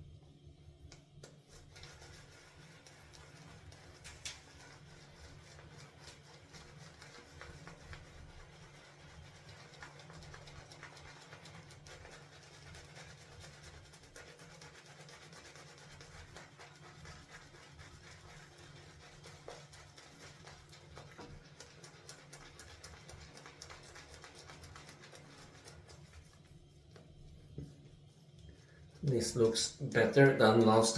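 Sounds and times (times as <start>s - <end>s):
shaving brush swirling lather: 1.4s - 30.9s.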